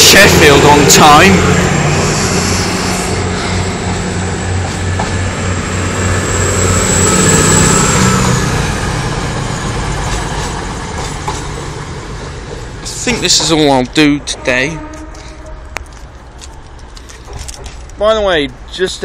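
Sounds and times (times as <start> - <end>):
diesel train engine drone: 0.0 - 19.0
train wheel and rail noise: 0.0 - 19.0.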